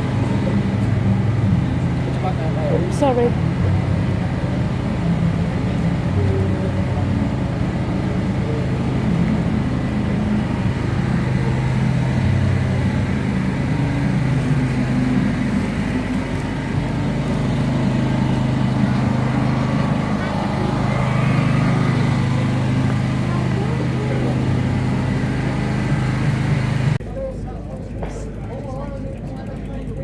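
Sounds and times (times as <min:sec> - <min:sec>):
engine running with low hum: 0:00.0 - 0:30.0.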